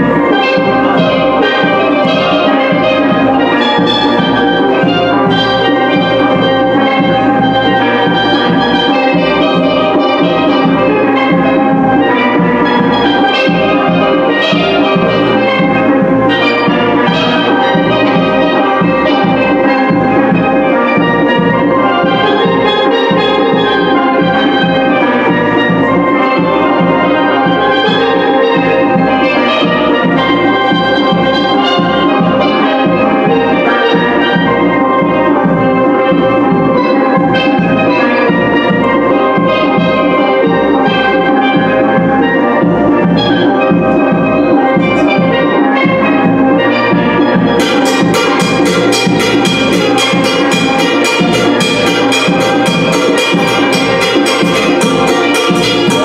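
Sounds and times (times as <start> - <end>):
drum and cymbal beat: 0.0 - 56.0
steel drums playing melody: 0.0 - 56.0.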